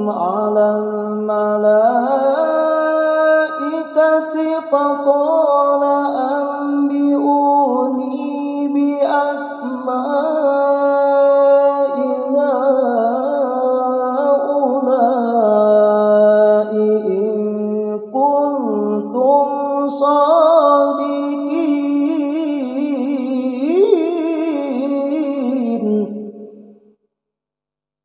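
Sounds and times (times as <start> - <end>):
man reciting melodically: 0.0 - 26.4.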